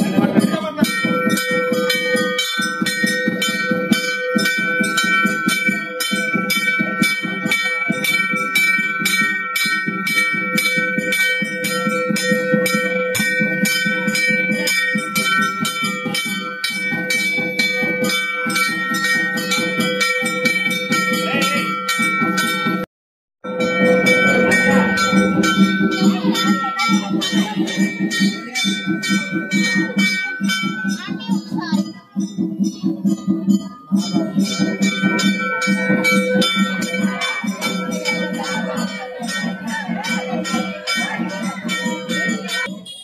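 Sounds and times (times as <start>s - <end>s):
temple bell rung rapidly: 0.0s - 43.0s.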